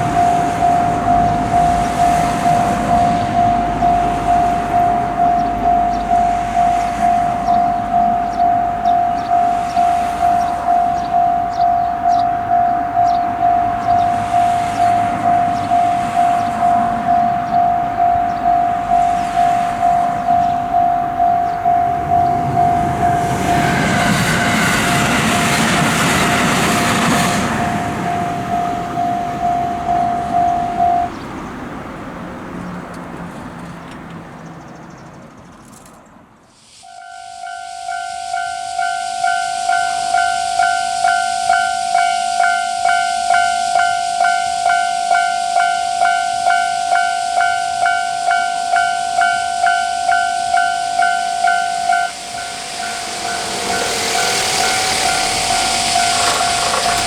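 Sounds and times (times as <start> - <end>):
two-tone crossing bell: 0.0 - 25.2, 26.3 - 31.2, 36.8 - 57.0
level-crossing warning bell ringing: 0.0 - 31.4, 36.8 - 57.0
train passing: 0.0 - 35.4, 36.3 - 57.0.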